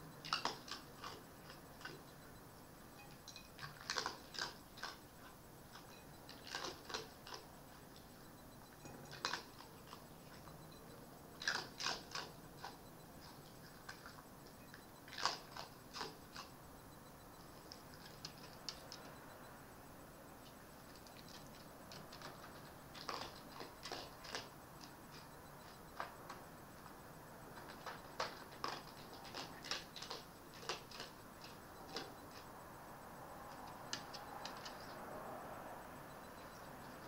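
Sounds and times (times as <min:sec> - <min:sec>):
fox crunching food: 0:00.2 - 0:02.4, 0:03.1 - 0:16.6, 0:17.4 - 0:19.2, 0:20.4 - 0:32.6, 0:33.4 - 0:35.2.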